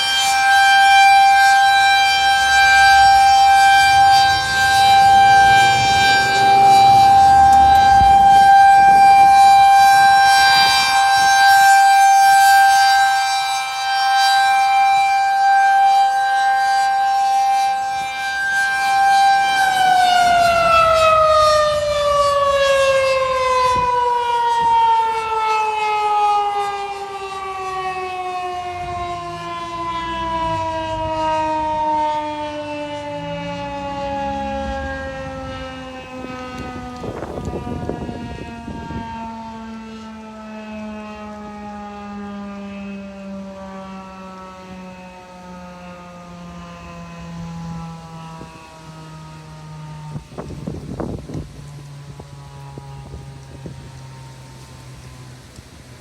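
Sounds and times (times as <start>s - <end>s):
rotating siren winding down: 0.0s - 56.0s.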